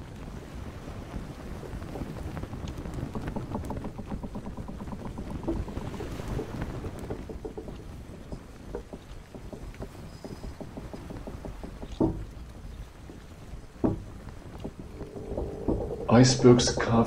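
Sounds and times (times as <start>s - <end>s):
low boat engine rumble: 0.0s - 17.0s
water slapping against boat hull: 0.1s - 17.0s.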